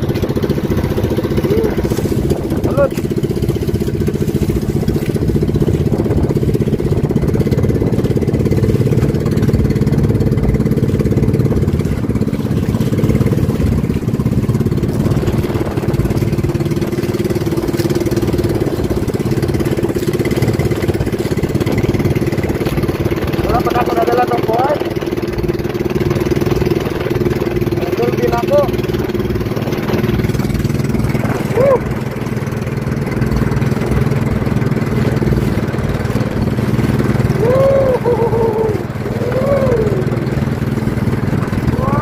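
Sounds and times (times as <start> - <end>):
boat engine droning: 0.0 - 42.0.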